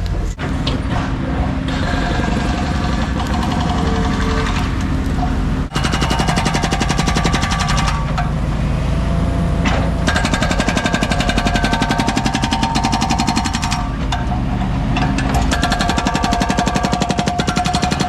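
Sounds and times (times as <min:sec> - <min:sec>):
diesel engine drone: 0:00.0 - 0:18.0
concrete breaker hammering: 0:00.4 - 0:18.0.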